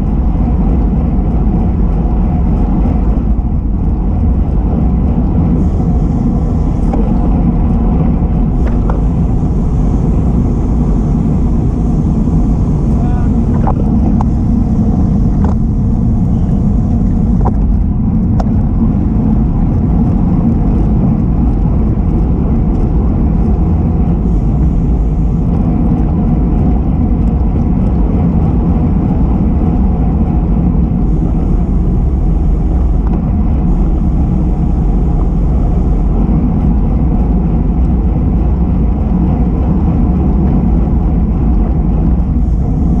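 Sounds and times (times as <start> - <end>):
wind noise on microphone: 0.0 - 43.0.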